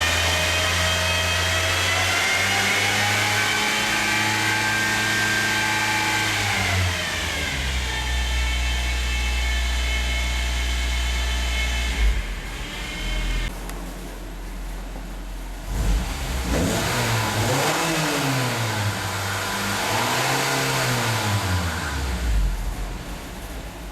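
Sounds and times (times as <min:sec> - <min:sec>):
whine over car engine: 0:00.0 - 0:13.7, 0:15.6 - 0:23.9.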